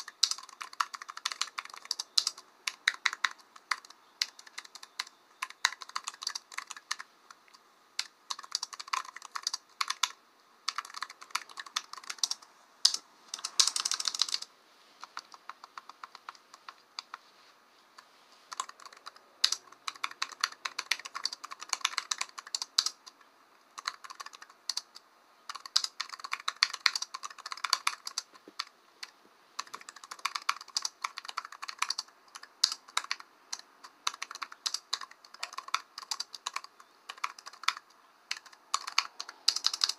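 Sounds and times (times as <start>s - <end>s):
typing on a keyboard: 0.0s - 17.2s, 18.5s - 39.9s.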